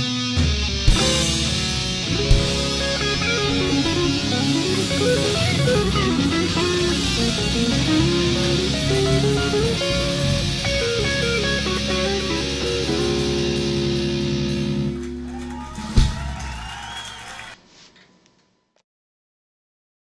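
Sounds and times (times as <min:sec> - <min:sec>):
electric guitar through amplifier: 0:00.0 - 0:16.6
recorded band track: 0:00.0 - 0:17.6.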